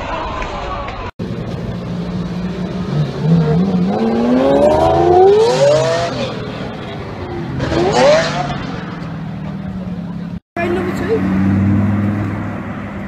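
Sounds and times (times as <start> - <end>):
car engine accelerating: 1.2 - 13.0.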